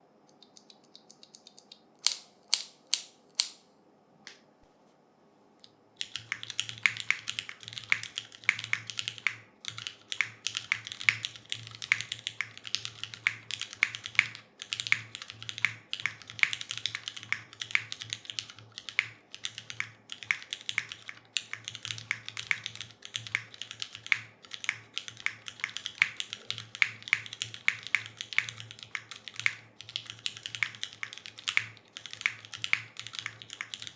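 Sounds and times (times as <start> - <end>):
mechanical keyboard typing: 0.3 - 3.6, 6.0 - 33.9.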